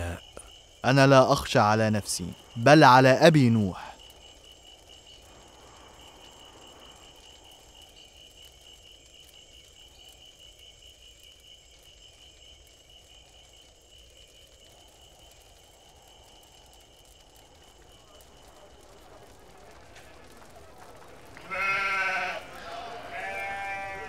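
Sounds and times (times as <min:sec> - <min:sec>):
crickets chirping: 0:00.0 - 0:24.0
low hiss: 0:00.0 - 0:24.0.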